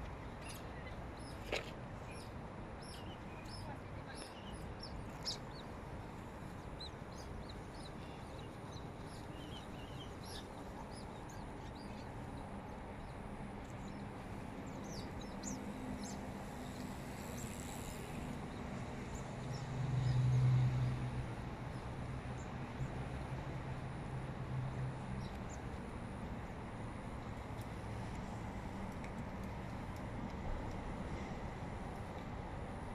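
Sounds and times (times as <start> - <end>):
city background noise: 0.0 - 32.9.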